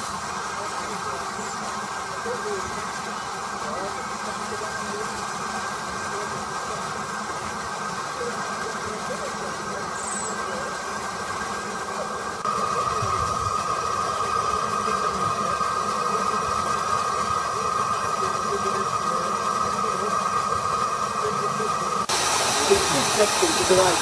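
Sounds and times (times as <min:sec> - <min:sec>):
faint voices: 0:00.0 - 0:24.0
steam hissing from locomotive: 0:00.0 - 0:24.0.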